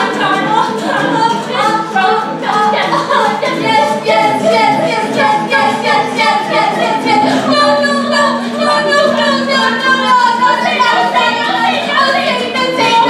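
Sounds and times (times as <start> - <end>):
voices singing together: 0.0 - 13.0.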